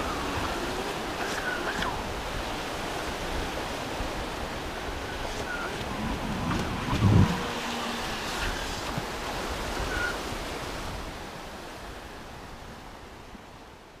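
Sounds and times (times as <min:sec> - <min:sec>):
small surf waves breaking: 0:00.0 - 0:14.0.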